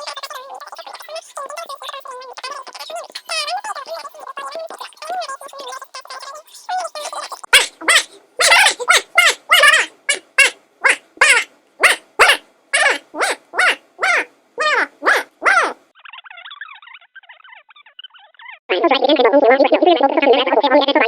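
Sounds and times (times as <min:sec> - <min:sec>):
high-pitched gibberish voice: 0:00.0 - 0:21.0
phone-filtered voice babbling: 0:00.0 - 0:21.0.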